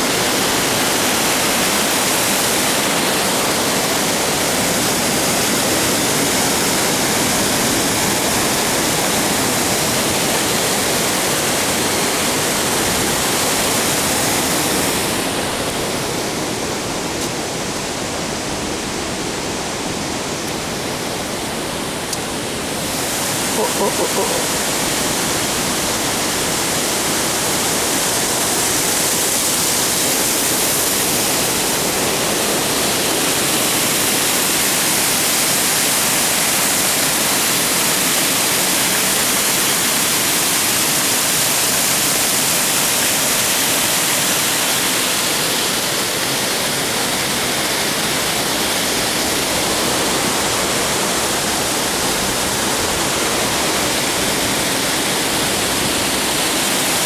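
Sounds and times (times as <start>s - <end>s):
rushing river water: 0.0s - 57.0s.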